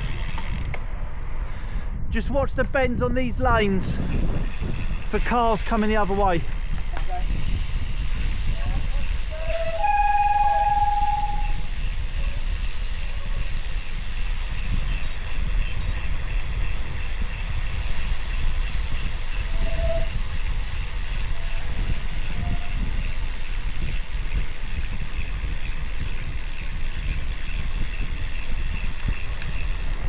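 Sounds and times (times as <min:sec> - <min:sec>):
wind and road rumble: 0:00.0 - 0:30.0
bicycle disc brake squealing: 0:03.9 - 0:30.0.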